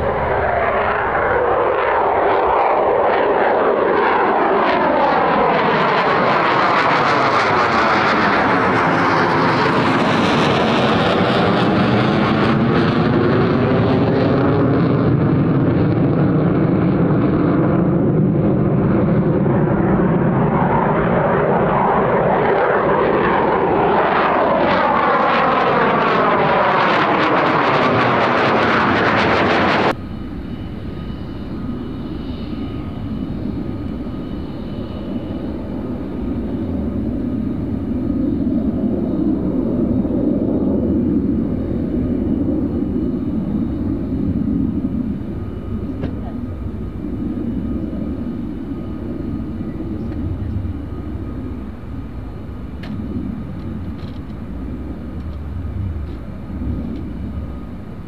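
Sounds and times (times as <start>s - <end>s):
fighter jet engines roaring: 0.0s - 58.0s.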